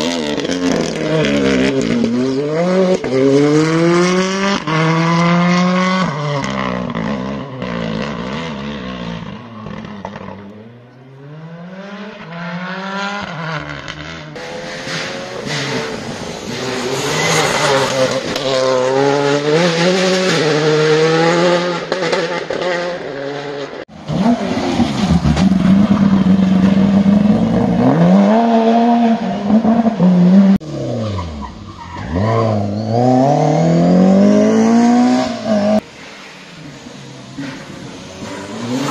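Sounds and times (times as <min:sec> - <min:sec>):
rally car engines revving hard: 0:00.0 - 0:31.4, 0:32.0 - 0:38.9.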